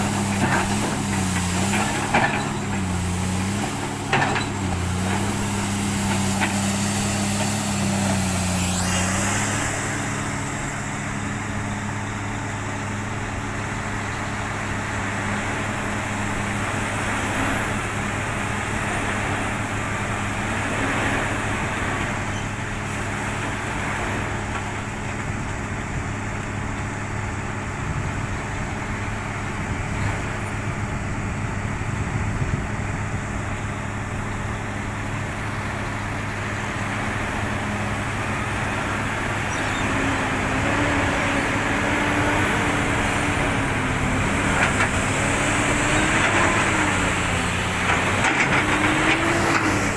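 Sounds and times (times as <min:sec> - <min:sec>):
excavator diesel engine working: 0:00.0 - 0:49.9.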